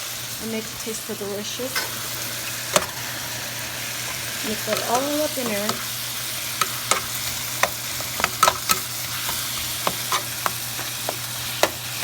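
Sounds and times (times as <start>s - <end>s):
meat sizzling in oil: 0.0s - 12.0s
utensil stirring in a pan: 0.5s - 12.0s.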